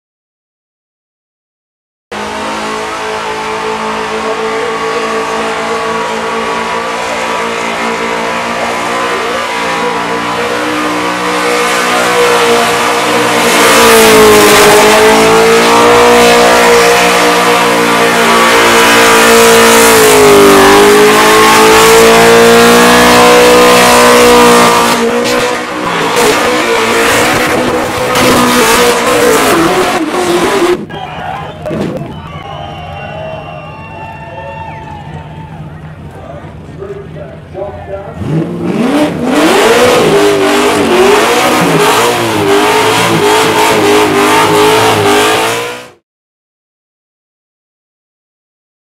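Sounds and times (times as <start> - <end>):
car engine revving high: 2.1 - 32.2, 34.8 - 46.0.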